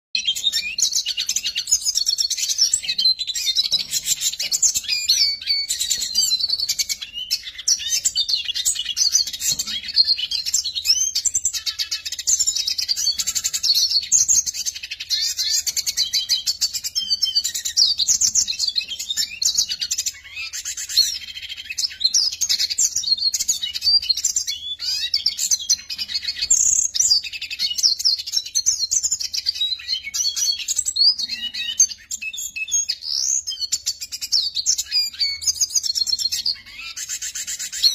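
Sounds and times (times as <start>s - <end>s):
bird twittering song: 0.2s - 37.9s.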